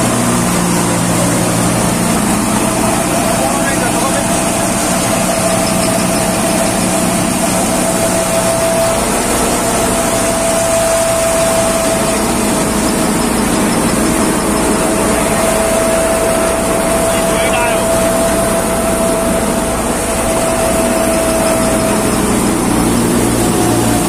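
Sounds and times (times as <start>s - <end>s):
low machine drone: 0.0s - 24.0s
threshing machine whine: 0.0s - 24.0s.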